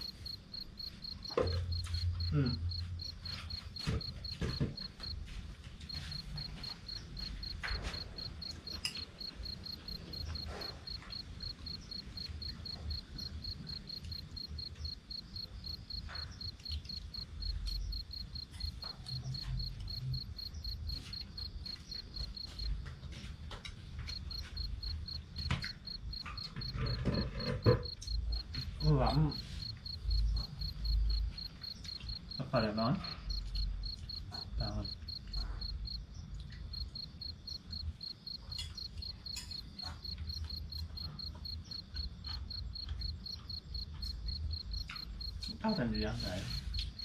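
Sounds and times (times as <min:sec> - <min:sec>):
cricket chirping: 0:00.0 - 0:47.0.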